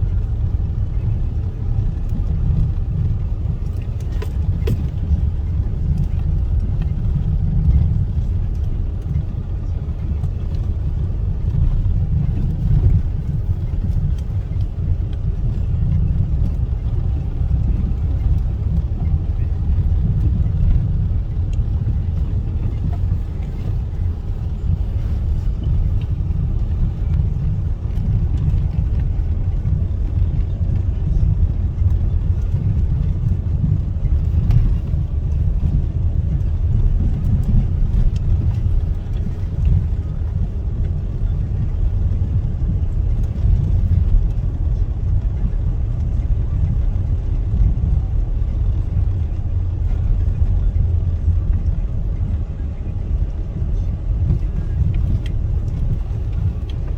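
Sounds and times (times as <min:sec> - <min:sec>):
car road rumble: 0:00.0 - 0:56.9.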